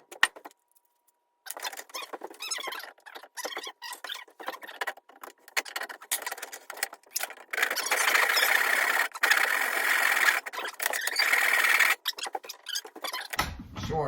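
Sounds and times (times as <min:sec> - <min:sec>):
wood scraping and rubbing: 0:01.5 - 0:13.4.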